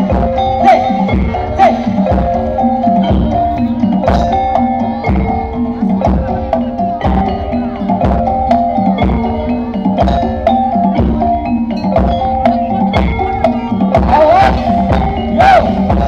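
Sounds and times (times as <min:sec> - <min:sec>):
metallophones playing melody: 0:00.0 - 0:16.0.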